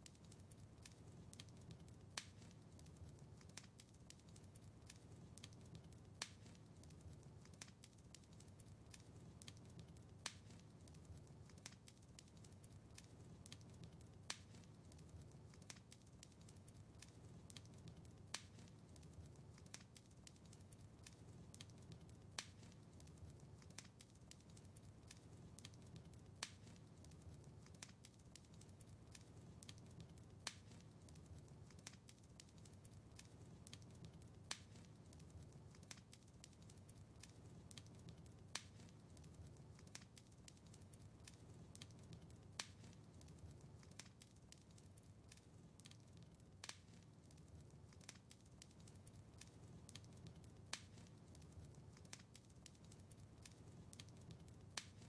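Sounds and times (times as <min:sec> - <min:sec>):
crackling wood fire: 0:00.0 - 0:55.0
fire popping: 0:00.0 - 0:55.0.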